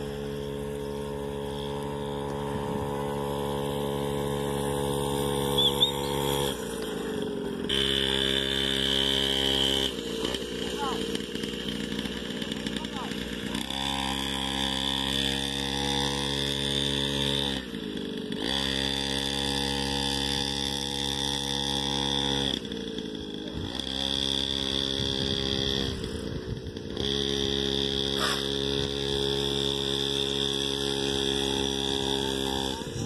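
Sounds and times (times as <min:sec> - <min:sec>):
small dirt bike engine running: 0:00.0 - 0:33.0.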